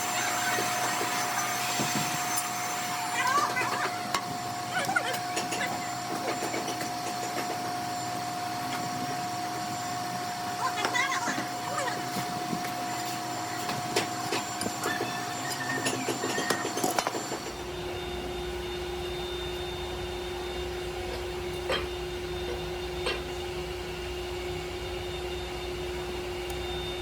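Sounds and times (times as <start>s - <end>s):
low machine whine: 0.0s - 27.0s
machine whine: 0.0s - 27.0s.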